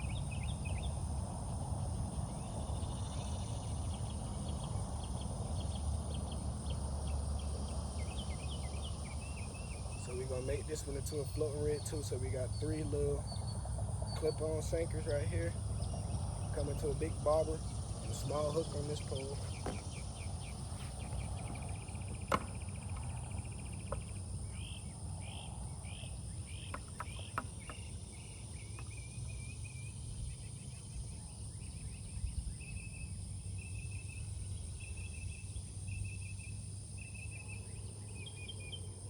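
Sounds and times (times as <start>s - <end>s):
insects chirping in trills: 0.0s - 39.0s.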